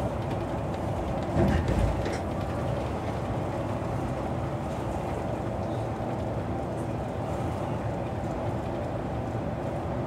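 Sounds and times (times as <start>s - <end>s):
bus engine and tyres drone: 0.0s - 10.0s.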